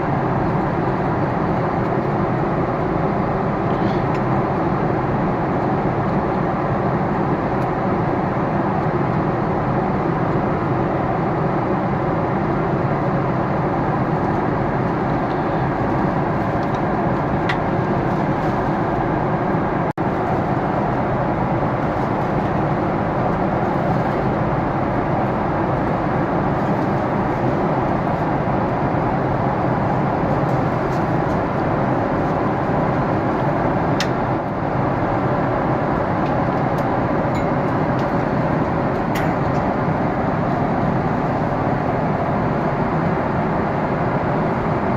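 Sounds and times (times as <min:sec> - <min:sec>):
jet engines droning: 0:00.0 - 0:44.9
rush of air in aircraft cabin: 0:00.0 - 0:44.9.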